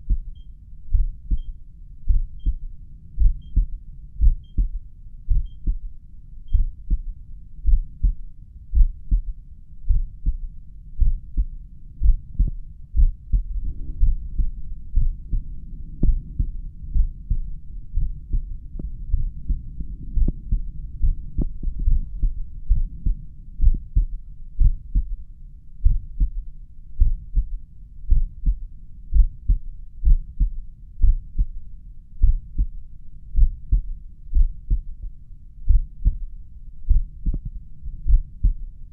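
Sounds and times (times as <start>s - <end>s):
heartbeat through stethoscope: 0.0s - 25.2s, 25.8s - 38.7s.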